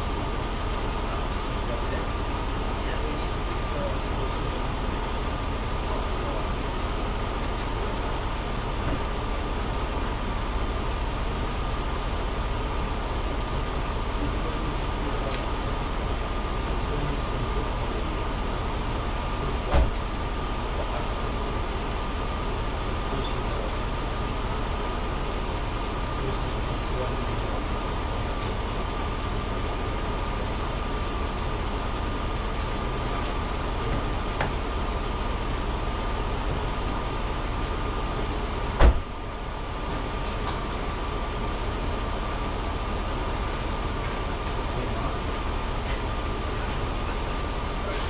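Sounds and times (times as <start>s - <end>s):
faint steady whine: 0.0s - 48.0s
truck engine idling: 0.0s - 48.0s.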